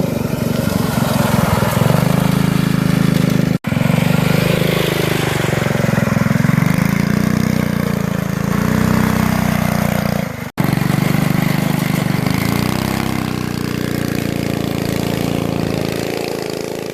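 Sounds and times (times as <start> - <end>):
mini bike engine running: 0.0 - 16.9.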